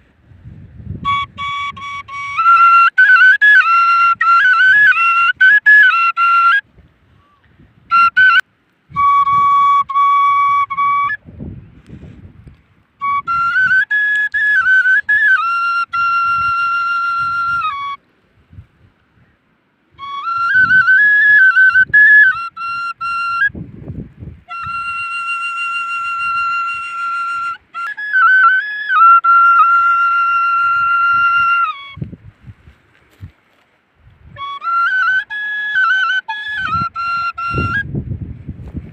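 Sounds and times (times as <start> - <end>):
flute playing slow melody: 0.6 - 12.2, 13.0 - 18.0, 19.9 - 33.3, 34.2 - 38.2.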